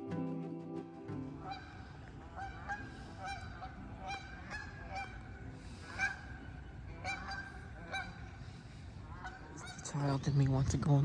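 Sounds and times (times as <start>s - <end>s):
geese honking: 1.3s - 10.2s.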